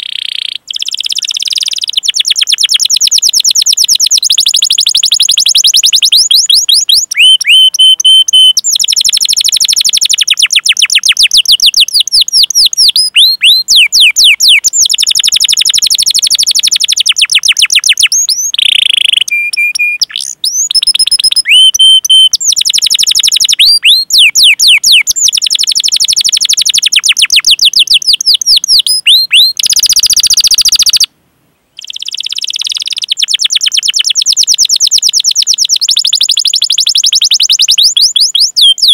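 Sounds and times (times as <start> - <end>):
canary singing: 0.0 - 31.1, 31.7 - 38.9.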